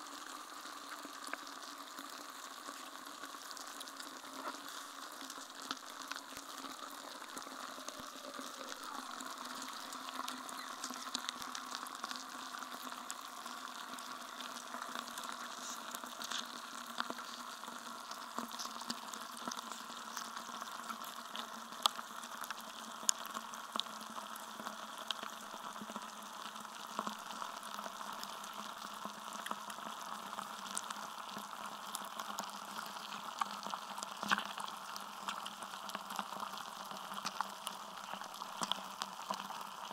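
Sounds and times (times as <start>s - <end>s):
melting ice crackling and fizzing: 0.0s - 39.9s.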